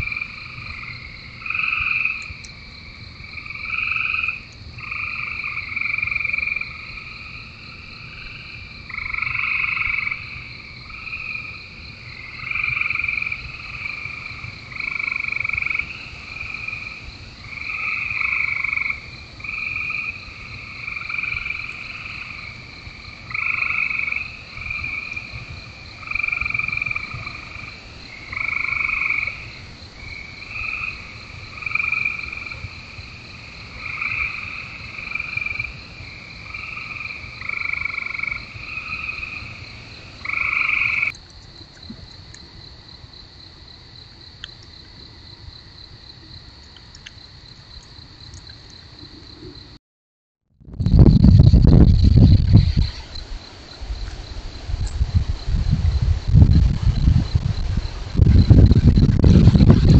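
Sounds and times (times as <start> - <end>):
chorus of frogs trilling: 0.0 - 49.8, 50.8 - 59.9.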